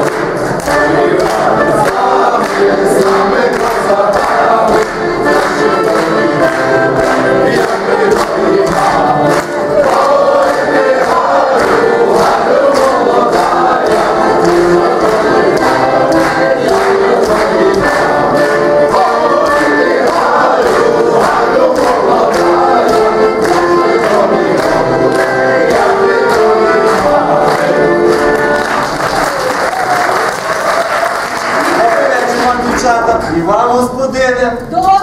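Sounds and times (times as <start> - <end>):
steady beat: 0.0 - 28.6
group singing folk song in chorus: 0.0 - 29.3, 31.4 - 32.5.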